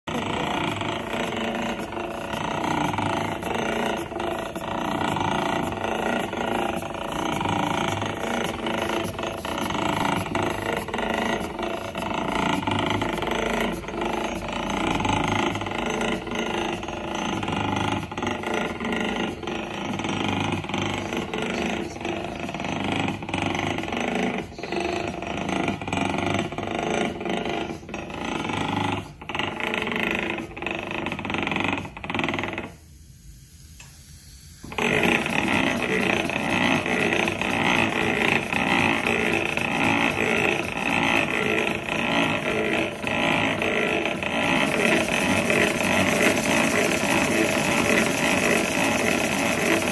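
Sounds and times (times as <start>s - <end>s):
fast mechanical clicking: 0.0s - 32.8s, 34.6s - 49.9s
steam engine chuffing: 0.1s - 31.6s, 34.3s - 49.9s.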